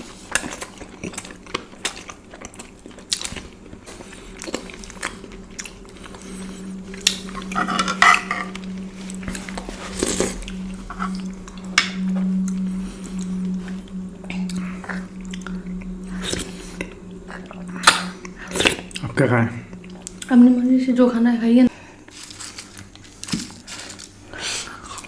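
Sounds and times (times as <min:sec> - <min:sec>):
low steady hum: 0:00.0 - 0:23.3.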